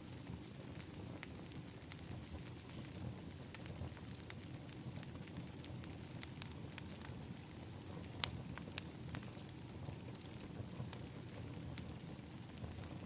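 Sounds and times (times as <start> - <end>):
low rumble of flames: 0.0 - 13.0
wood fire crackling: 0.0 - 13.0
sharp pops of fire: 0.1 - 13.0.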